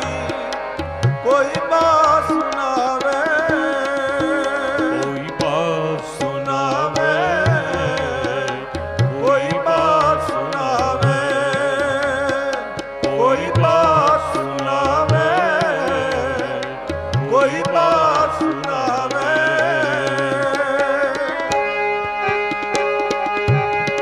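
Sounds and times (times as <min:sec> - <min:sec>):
man singing: 0:00.0 - 0:21.7
harmonium melody: 0:00.0 - 0:24.0
tabla: 0:00.0 - 0:24.0.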